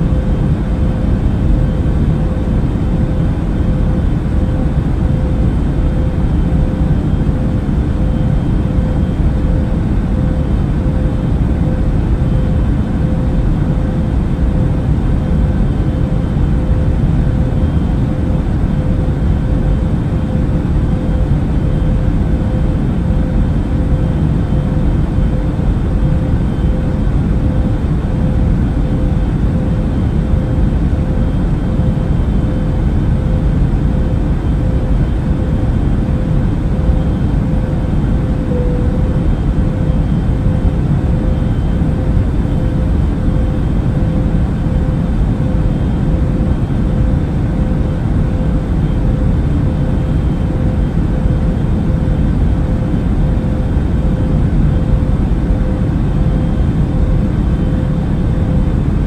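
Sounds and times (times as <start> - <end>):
airplane cabin rumble: 0.0 - 59.0
faint constant tone: 0.0 - 59.0.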